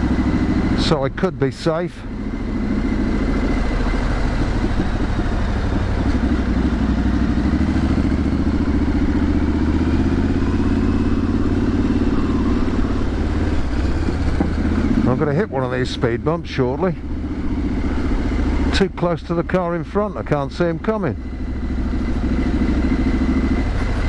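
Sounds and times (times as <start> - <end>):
motorcycle engine rumbling: 0.0 - 24.0.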